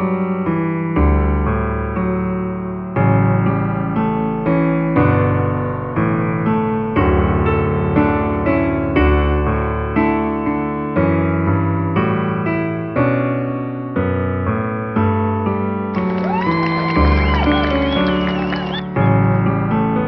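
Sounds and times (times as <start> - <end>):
piano chords ringing: 0.0 - 20.0.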